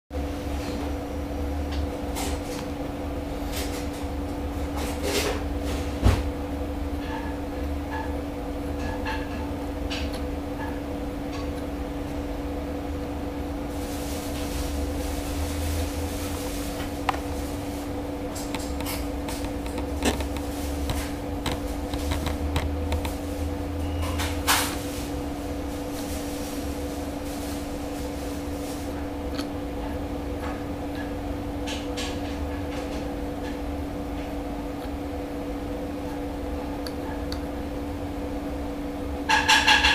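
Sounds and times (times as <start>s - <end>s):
gas meter mechanism hum: 0.1s - 39.9s.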